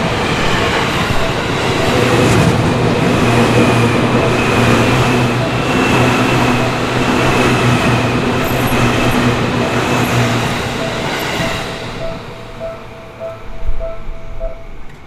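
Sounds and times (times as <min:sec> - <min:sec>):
crossing warning bell ringing: 0:00.0 - 0:15.0
electric train rolling past: 0:00.0 - 0:15.0.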